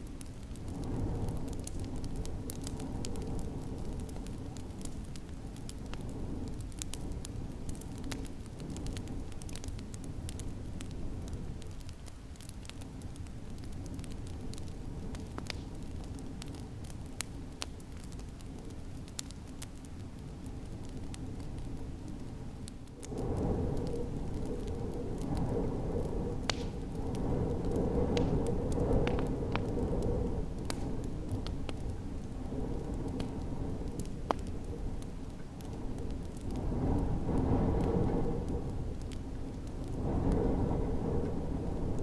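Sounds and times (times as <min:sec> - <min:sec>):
snowstorm wind rumble: 0:00.0 - 0:42.0
wood fire crackling: 0:00.0 - 0:42.0.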